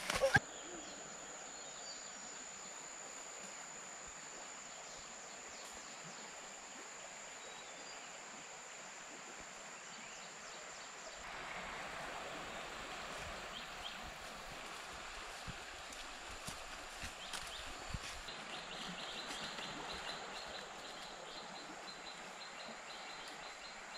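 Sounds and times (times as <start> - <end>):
flowing river water: 0.0 - 23.9.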